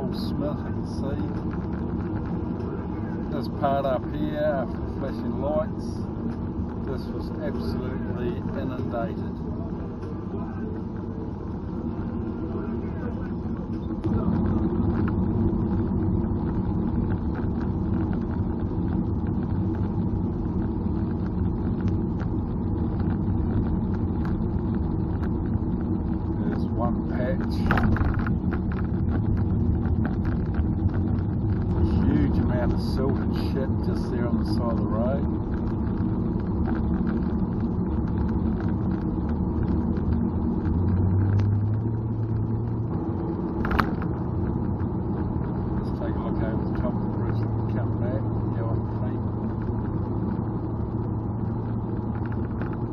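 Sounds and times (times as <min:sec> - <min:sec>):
deep hum: 0:00.0 - 0:52.9
tyres rumbling inside car cabin: 0:00.0 - 0:52.9.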